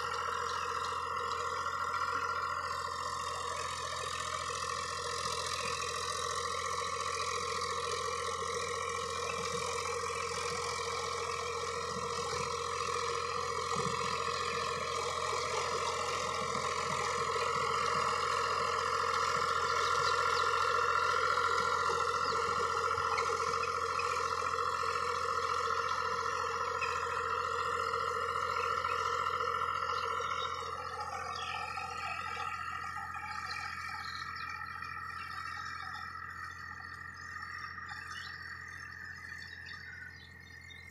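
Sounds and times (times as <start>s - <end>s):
steady whine: 0.0s - 40.9s
tractor diesel engine running: 0.0s - 40.9s.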